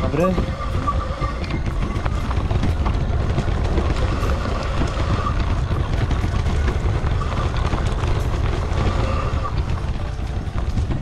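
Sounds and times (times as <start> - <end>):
bike riding rumble: 0.0 - 11.0
tyres clicking and rattling: 0.0 - 11.0.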